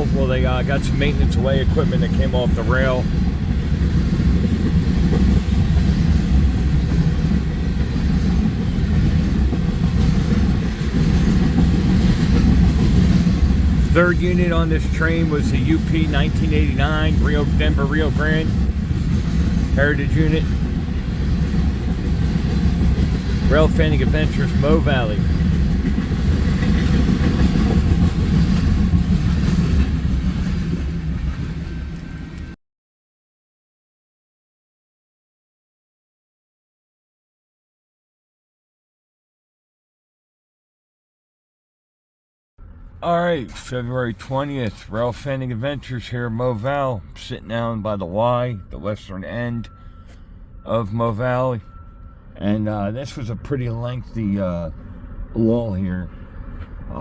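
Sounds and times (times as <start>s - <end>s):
freight train rumbling past: 0.0s - 32.6s, 42.6s - 57.0s.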